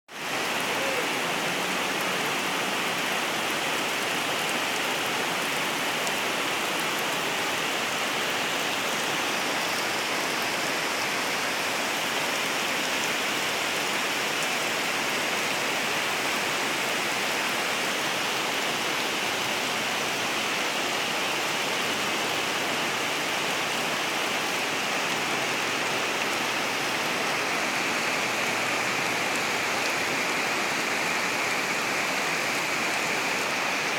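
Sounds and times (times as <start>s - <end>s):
rain falling on trees and grass: 0.1s - 33.9s.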